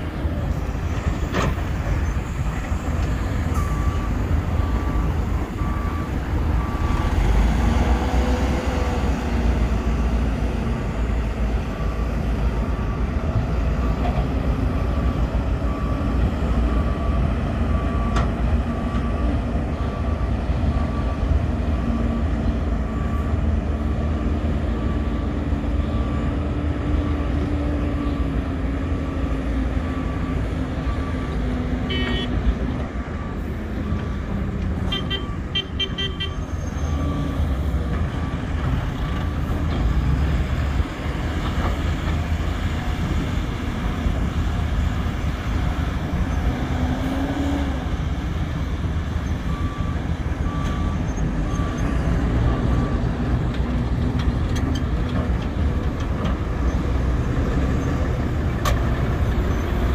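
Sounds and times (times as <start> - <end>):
diesel engines rumbling: 0.0 - 59.9.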